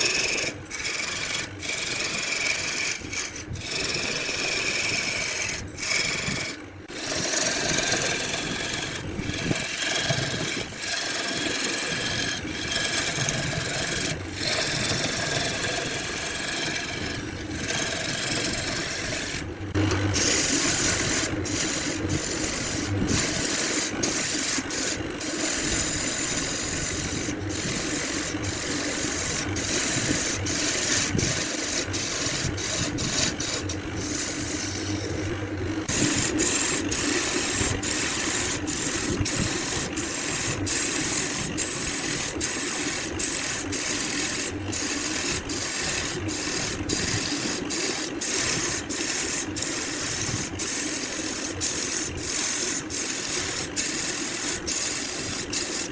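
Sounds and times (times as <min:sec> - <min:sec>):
lathe motor hum: 0:00.0 - 0:55.9
tool rasping against spinning wood: 0:00.0 - 0:55.9.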